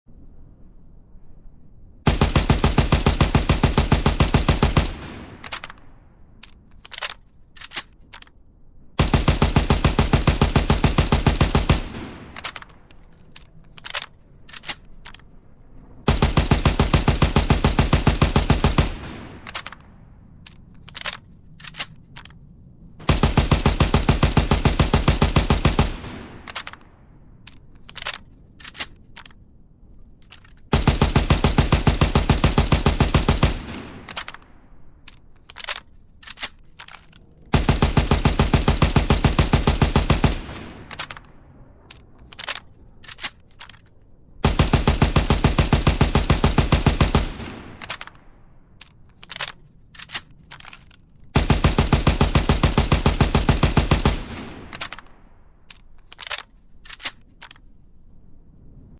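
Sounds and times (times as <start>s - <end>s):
metallic clicks of rifle reloading: 2.9s - 8.4s, 9.0s - 15.4s, 16.1s - 57.9s.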